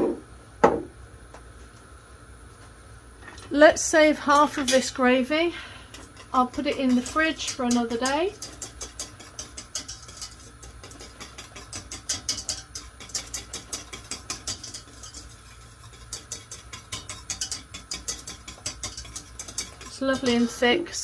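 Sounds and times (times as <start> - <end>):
whisk scraping a metal saucepan: 4.1 - 21.0.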